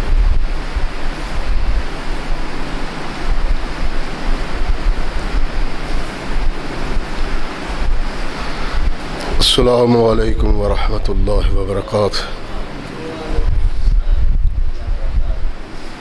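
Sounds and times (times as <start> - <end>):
wind buffeting microphone: 0.0 - 12.3, 13.3 - 16.0.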